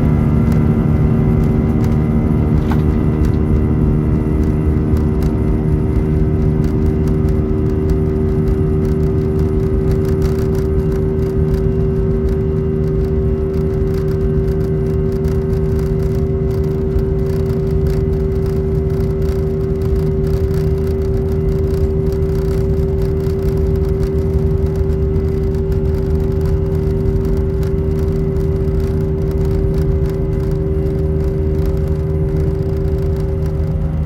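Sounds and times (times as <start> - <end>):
jet engines drone from cabin: 0.0 - 34.0.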